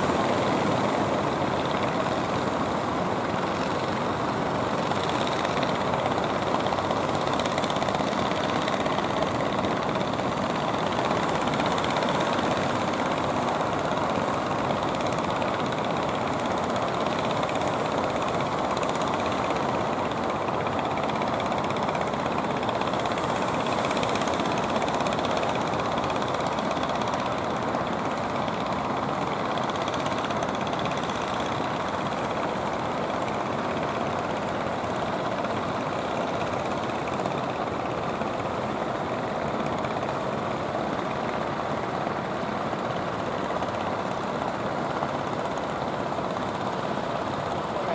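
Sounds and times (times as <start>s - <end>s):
boat engines running: 0.0s - 47.9s
sea wash: 0.0s - 47.9s.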